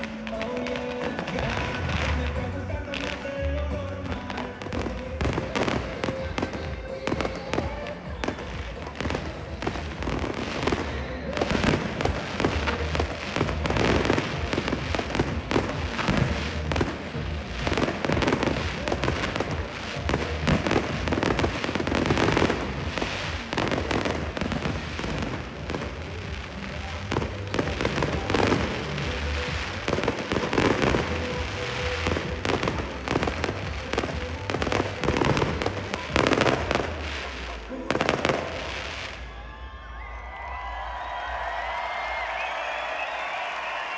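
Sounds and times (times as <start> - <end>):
fireworks bursting and crackling: 0.0 - 39.6
music playing: 0.0 - 43.9.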